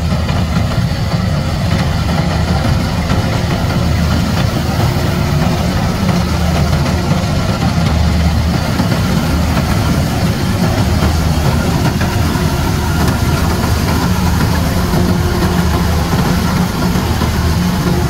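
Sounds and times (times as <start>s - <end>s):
combine harvester engine drone: 0.0s - 18.0s
threshing machinery noise: 0.0s - 18.0s.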